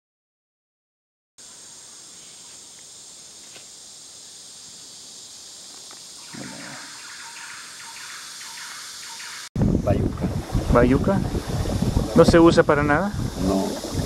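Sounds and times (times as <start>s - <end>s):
insect chorus drone: 1.4s - 14.0s
low pulsing insect call: 1.4s - 14.0s.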